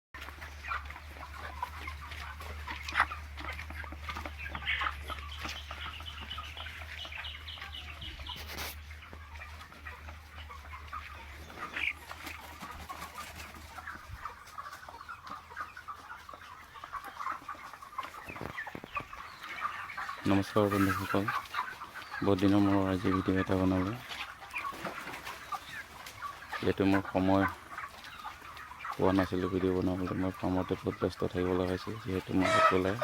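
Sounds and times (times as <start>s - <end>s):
chickens clucking and chirping: 0.2s - 33.0s.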